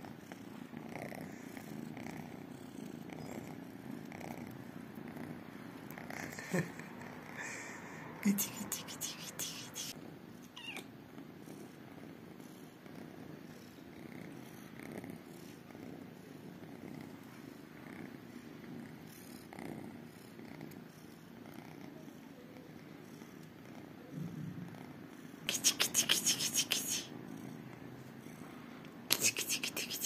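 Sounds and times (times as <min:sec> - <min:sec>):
kittens purring: 0:00.0 - 0:30.0.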